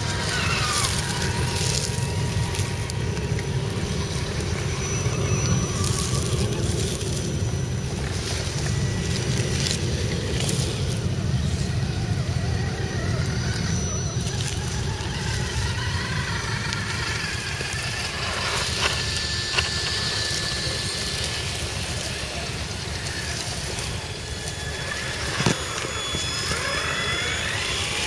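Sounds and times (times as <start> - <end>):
whine of electric motors and gears: 0.0 - 28.0
wind rumble on microphone: 0.0 - 28.0.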